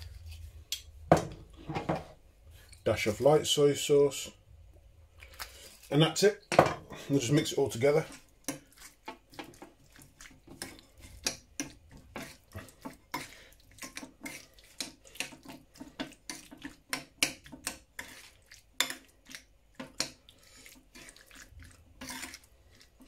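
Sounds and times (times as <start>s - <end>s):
wet squelches of stirring: 0.0s - 23.0s.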